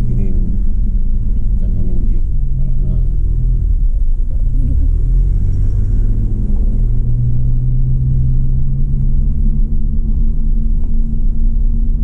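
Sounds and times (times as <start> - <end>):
car engine running: 0.0 - 12.0
low road rumble: 0.0 - 12.0.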